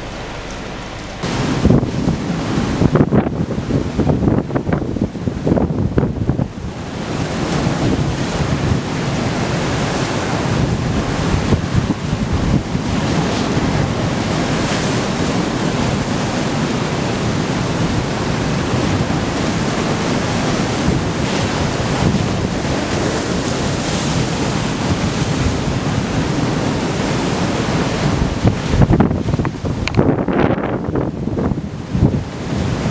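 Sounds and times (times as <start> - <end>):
storm surf breaking: 0.0 - 32.9
wind buffeting microphone: 0.0 - 32.9.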